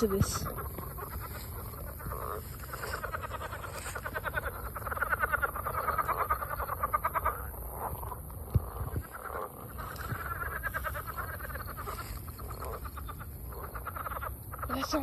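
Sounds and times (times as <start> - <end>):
frogs calling in trills: 0.0 - 15.0.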